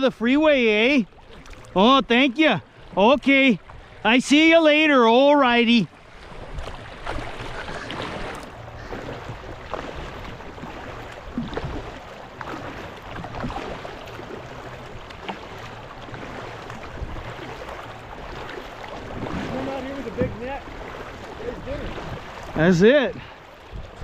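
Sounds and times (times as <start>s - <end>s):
paddle splashing water: 0.0s - 24.0s.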